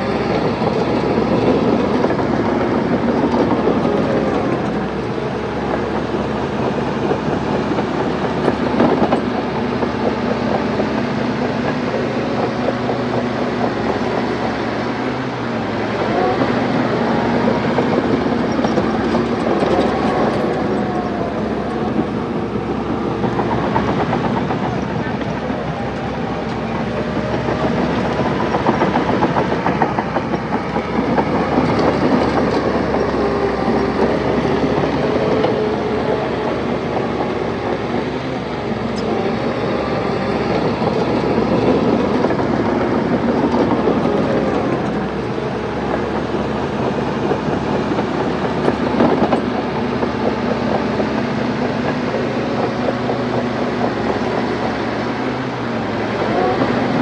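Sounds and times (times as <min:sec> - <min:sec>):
diesel engine under load: 0:00.0 - 0:57.0
steel tracks clanking: 0:00.0 - 0:57.0.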